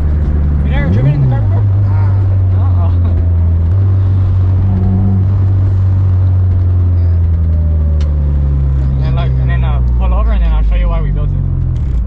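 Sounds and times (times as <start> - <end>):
car engine drone in cabin: 0.0 - 12.0
road noise: 0.0 - 12.0.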